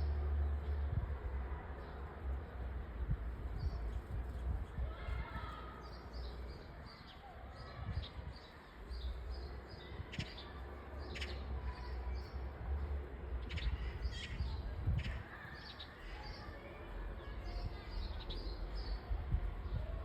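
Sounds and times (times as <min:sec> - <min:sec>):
steady low rumble: 0:00.0 - 0:10.8, 0:11.4 - 0:15.4, 0:16.0 - 0:20.0
small birds chirping: 0:01.8 - 0:20.0.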